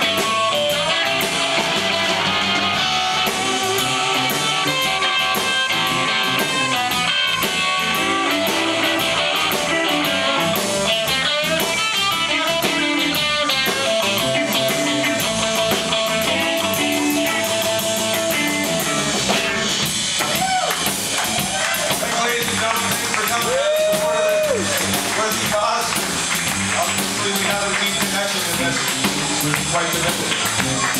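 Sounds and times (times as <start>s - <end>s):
bass guitar: 0.0s - 30.9s
drum kit: 0.0s - 30.9s
lead electric guitar: 0.0s - 30.9s.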